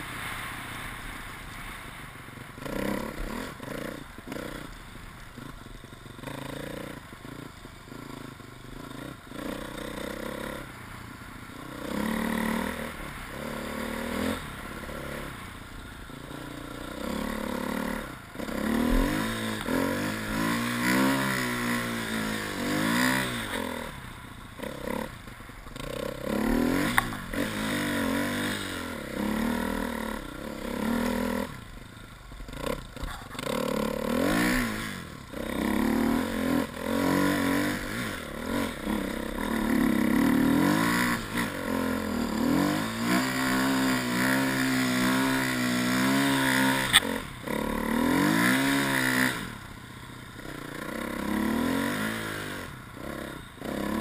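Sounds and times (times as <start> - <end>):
motorcycle engine revving: 2.4 - 54.0.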